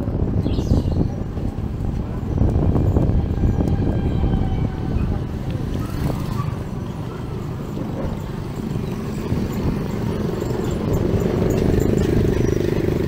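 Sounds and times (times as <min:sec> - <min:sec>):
street traffic rumble: 0:00.0 - 0:13.0
vehicle engine hum: 0:00.0 - 0:13.0.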